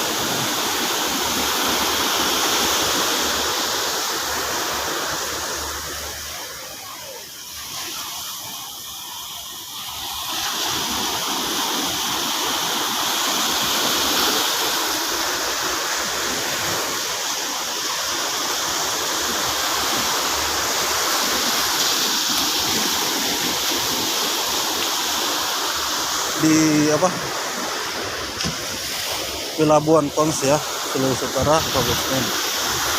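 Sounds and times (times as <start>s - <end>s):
surf rushing at shoreline: 0.0s - 32.9s.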